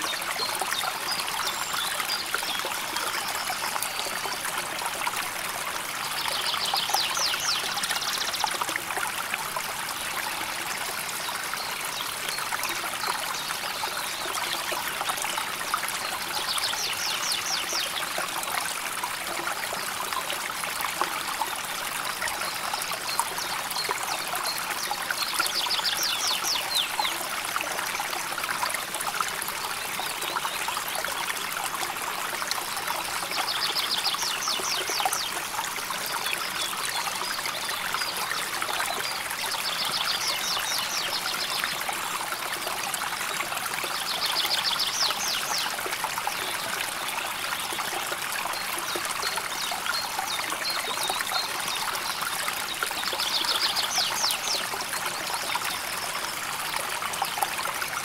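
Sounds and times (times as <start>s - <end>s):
stream flowing and trickling: 0.0s - 58.0s.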